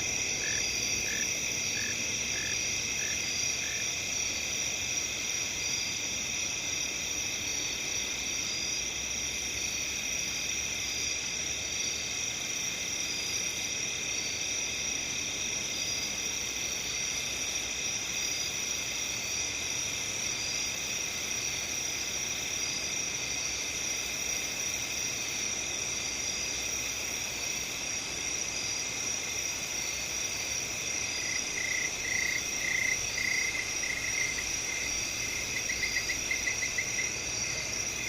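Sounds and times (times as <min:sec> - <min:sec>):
crickets and insects trilling: 0:00.0 - 0:38.0.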